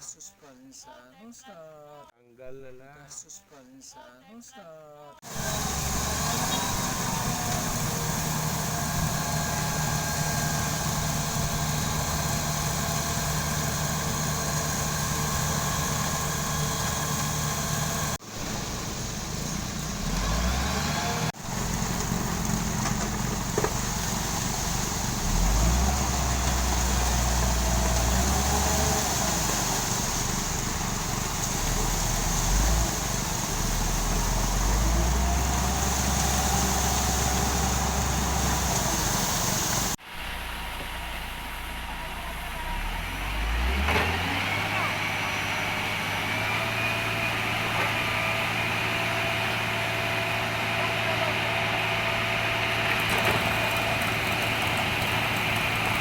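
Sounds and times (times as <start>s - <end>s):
construction machinery engine rumbling: 5.2s - 56.0s.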